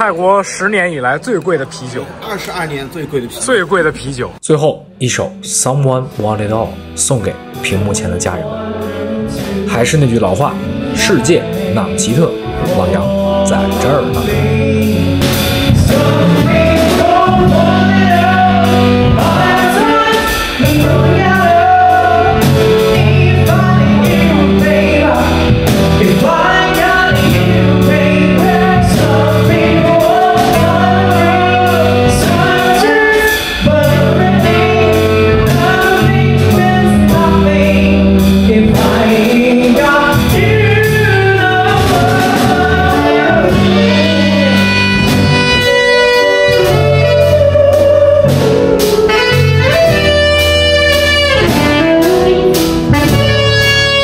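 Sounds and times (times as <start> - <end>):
instrumental backing: 0.0 - 54.0
person singing: 5.1 - 54.0
steady drum beat: 5.6 - 54.0.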